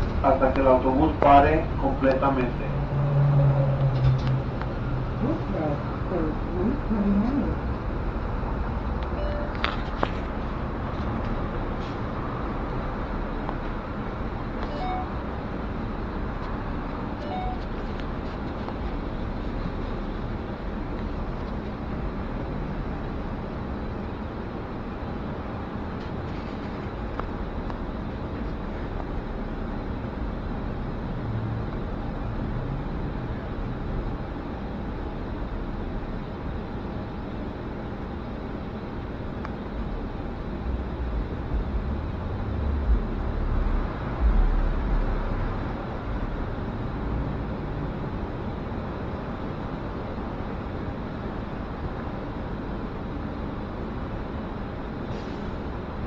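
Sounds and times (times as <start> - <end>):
bus engine and road hum: 0.0 - 56.0.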